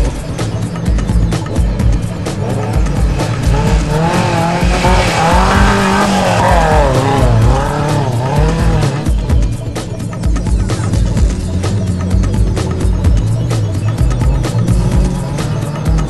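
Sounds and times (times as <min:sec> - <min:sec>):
backing music with steady beat: 0:00.0 - 0:16.0
truck engine revving: 0:00.1 - 0:16.0.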